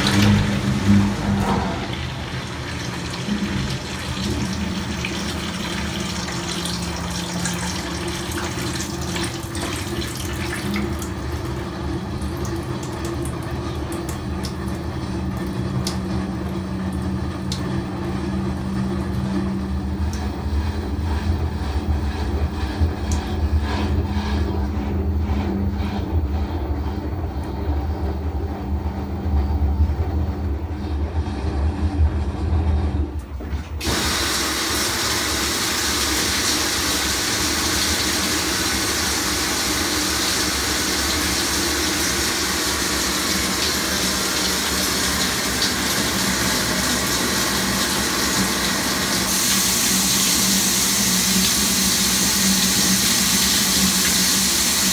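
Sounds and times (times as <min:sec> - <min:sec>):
water pouring into drum: 0:00.0 - 0:24.4, 0:33.4 - 0:54.9
washing machine drum spinning: 0:00.0 - 0:54.9.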